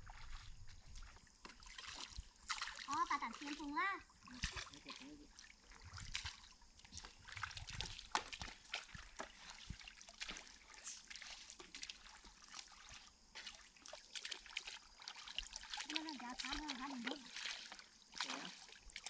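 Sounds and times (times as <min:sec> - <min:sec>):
water trickling and splashing: 0:00.0 - 0:19.0.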